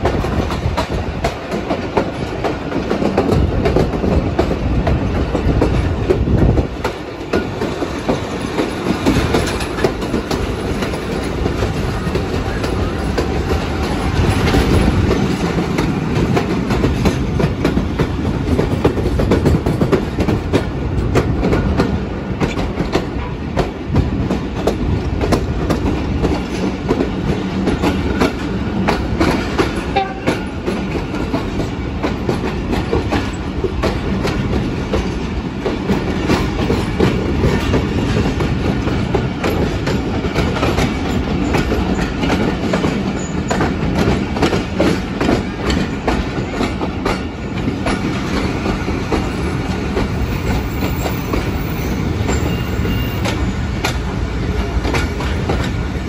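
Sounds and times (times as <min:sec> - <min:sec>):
train wheels rumbling and clacking: 0:00.0 - 0:56.0.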